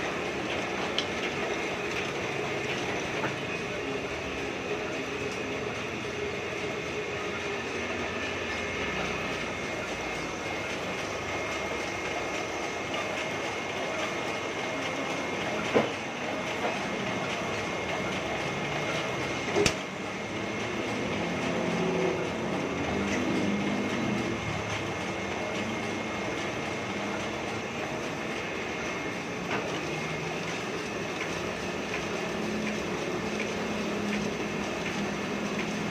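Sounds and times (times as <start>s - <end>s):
printing press clatter: 0.0s - 35.9s.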